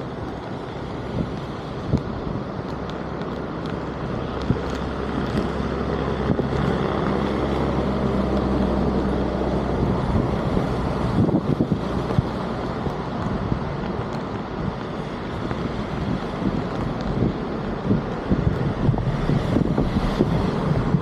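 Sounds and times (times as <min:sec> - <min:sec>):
floodwater rushing through drain: 0:00.0 - 0:21.0
wind buffeting microphone: 0:00.0 - 0:21.0.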